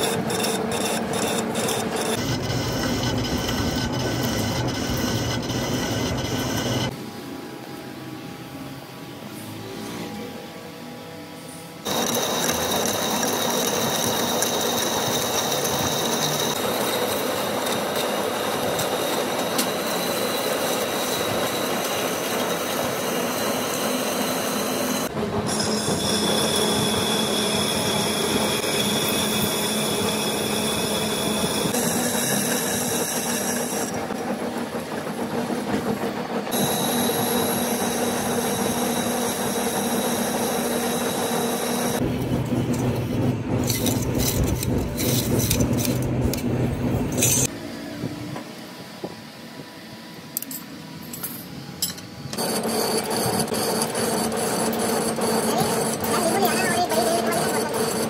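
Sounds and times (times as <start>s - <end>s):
machine tool cutting metal: 0.0s - 6.9s, 11.8s - 47.5s, 51.3s - 58.0s
high-pitched machining whine: 0.0s - 46.0s, 47.0s - 58.0s.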